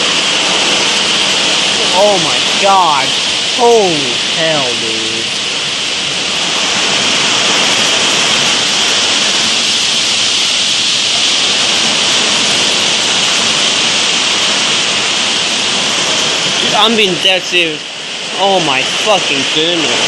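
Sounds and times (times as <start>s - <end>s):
strong wind: 0.0s - 18.4s
heavy rain: 0.0s - 20.0s.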